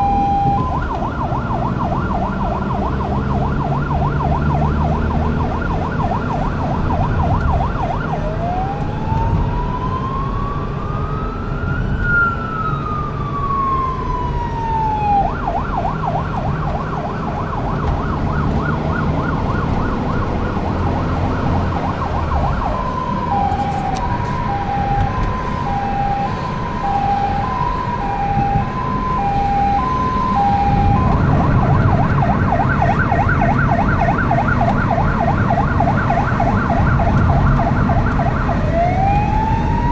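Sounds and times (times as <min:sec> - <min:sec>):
engine and road rumble: 0:00.0 - 0:39.9
fire engine siren: 0:00.0 - 0:39.9.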